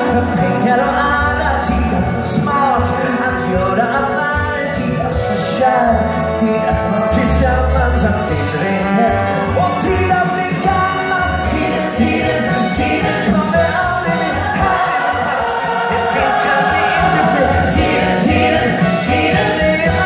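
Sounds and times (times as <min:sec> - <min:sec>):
band playing: 0:00.0 - 0:20.0
person singing: 0:00.0 - 0:20.0.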